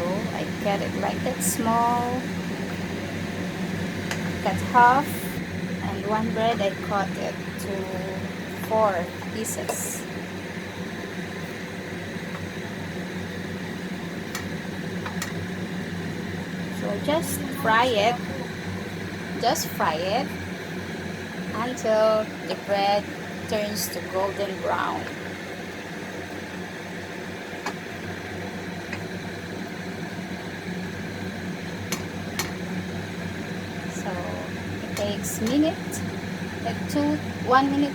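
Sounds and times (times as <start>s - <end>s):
exhaust fan humming: 0.0s - 37.9s.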